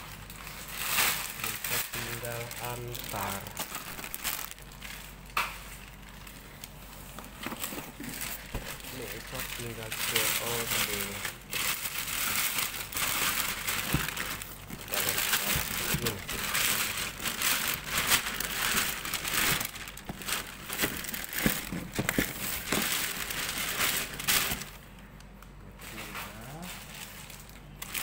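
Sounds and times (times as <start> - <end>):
plastic bag crinkling and rustling: 0.0 - 24.9, 25.8 - 28.0.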